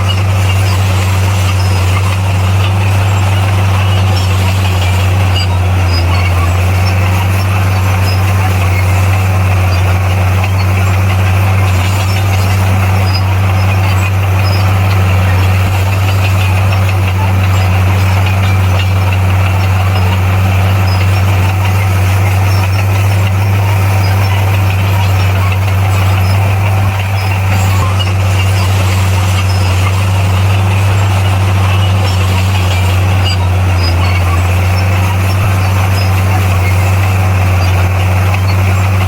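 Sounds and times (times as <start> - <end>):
bulldozer diesel engine droning: 0.0 - 39.0.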